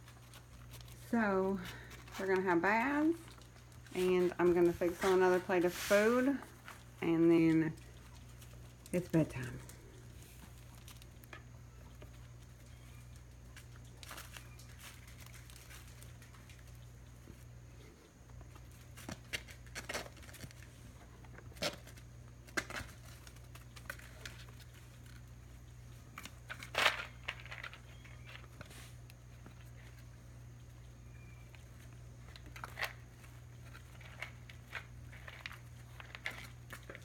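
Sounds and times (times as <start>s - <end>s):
kittens crinkling puppy pad: 0.0s - 37.0s
low steady hum: 0.0s - 37.0s.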